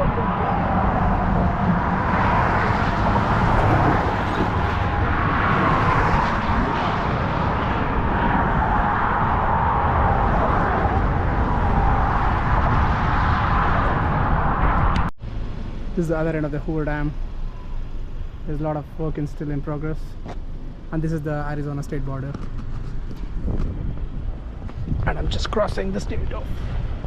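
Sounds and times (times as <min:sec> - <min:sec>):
outdoor rumble and hiss: 0:00.0 - 0:27.0.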